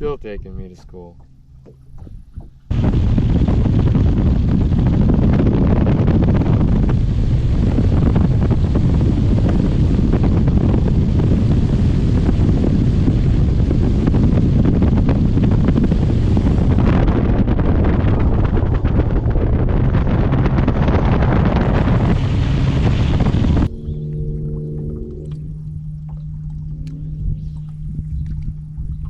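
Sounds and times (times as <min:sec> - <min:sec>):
boat hull on water: 0:00.0 - 0:29.0
outboard motor: 0:00.0 - 0:29.0
wind buffeting microphone: 0:00.0 - 0:29.0.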